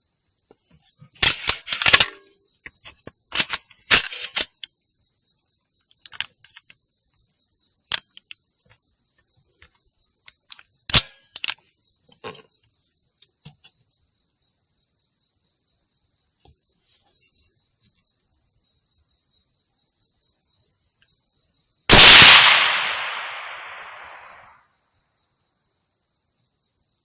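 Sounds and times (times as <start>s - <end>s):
high insect chorus: 0.0s - 27.0s.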